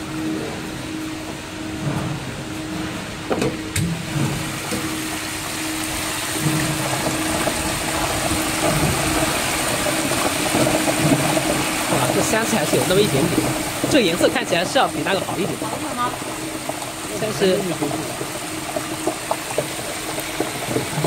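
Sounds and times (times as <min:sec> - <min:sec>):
hot oil bubbling and sizzling: 0:00.0 - 0:21.0
low machine hum: 0:00.0 - 0:21.0.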